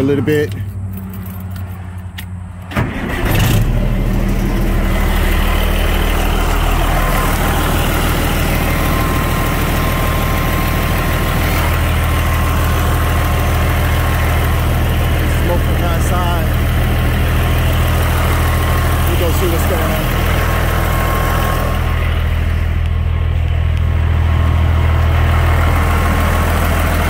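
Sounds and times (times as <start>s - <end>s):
diesel engine starting and idling: 0.0s - 27.0s.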